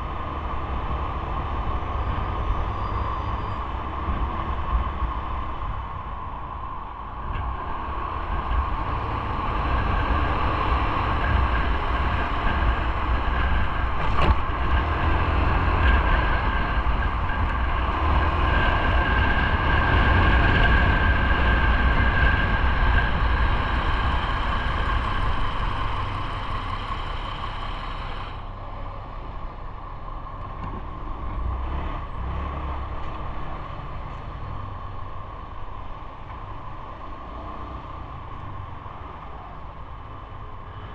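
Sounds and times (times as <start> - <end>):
riding rumble and hiss: 0.0 - 40.9.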